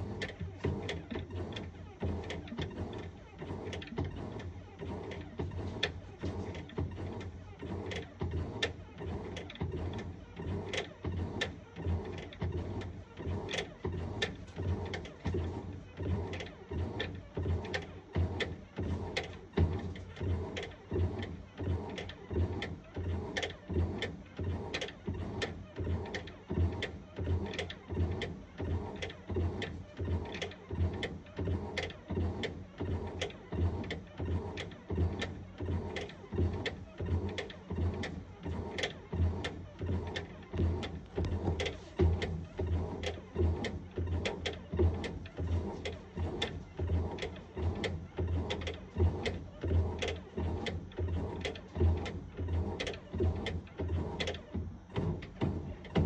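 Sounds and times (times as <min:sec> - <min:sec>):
low motor hum: 0:00.0 - 0:56.0
washing machine agitating: 0:00.0 - 0:56.0.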